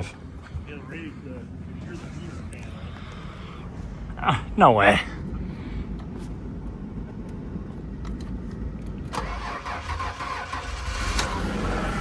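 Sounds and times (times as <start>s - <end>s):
car engine cranking and starting: 0.0s - 12.0s.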